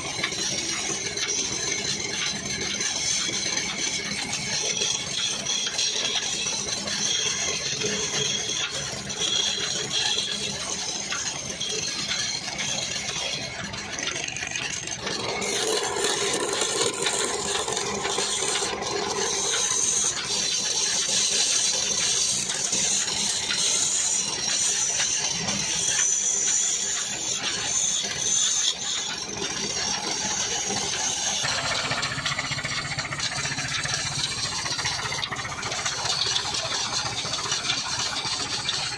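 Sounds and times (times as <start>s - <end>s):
chisel cutting spinning wood: 0.0s - 38.9s
wood lathe rattling: 0.0s - 38.9s.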